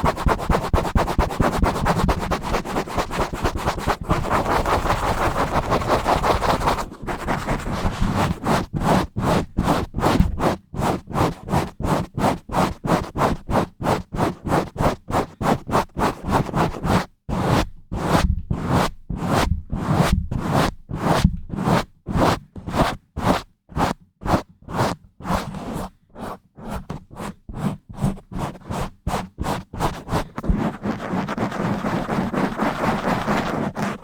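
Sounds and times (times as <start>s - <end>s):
scratching on a microphone: 0.0s - 34.0s.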